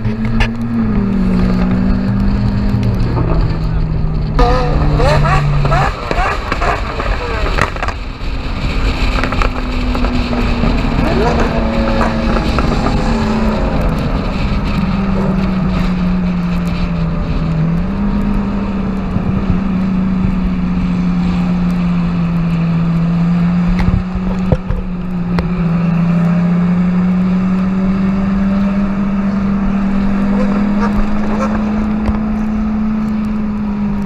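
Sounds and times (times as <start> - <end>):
car engine droning: 0.0 - 34.0.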